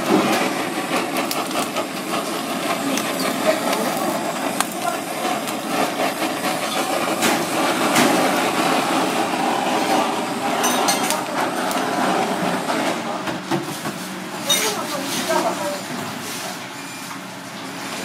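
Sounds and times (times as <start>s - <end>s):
blowtorch hissing: 0.0s - 16.5s.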